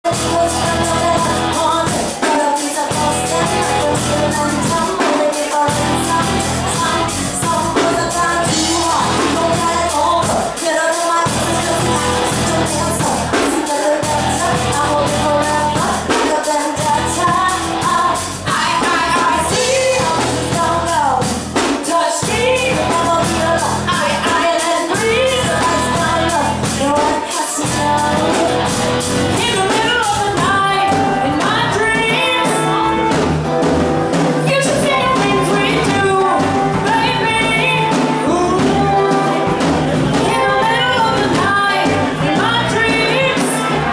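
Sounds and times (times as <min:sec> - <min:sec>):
electric bass: 0:00.0 - 0:02.1, 0:02.9 - 0:04.9, 0:05.7 - 0:10.4, 0:11.3 - 0:43.9
drum kit: 0:00.0 - 0:43.9
electric guitar: 0:00.0 - 0:43.9
woman singing: 0:00.0 - 0:43.9.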